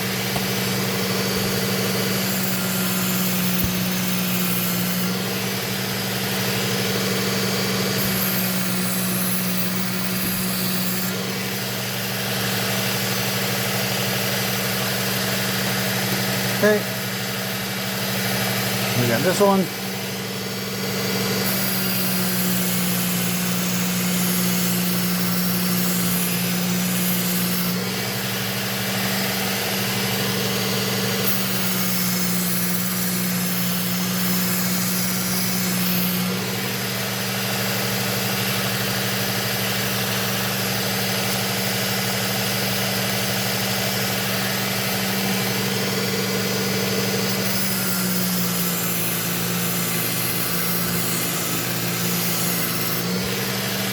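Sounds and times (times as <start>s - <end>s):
knife grinding on abrasive belt: 0.0s - 13.4s, 14.2s - 53.9s
knife sharpener motor hum: 0.0s - 53.9s.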